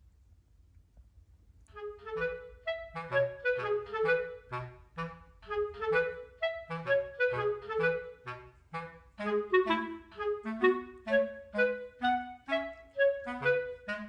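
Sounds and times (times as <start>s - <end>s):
faint low hum: 0.0s - 14.0s
bouncy woodwind tune: 1.7s - 14.0s.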